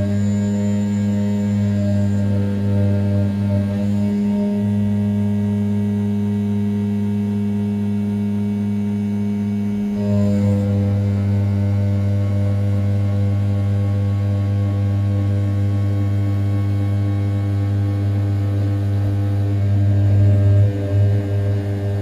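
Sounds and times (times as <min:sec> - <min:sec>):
mill spindle cutting metal hum: 0:00.0 - 0:22.0.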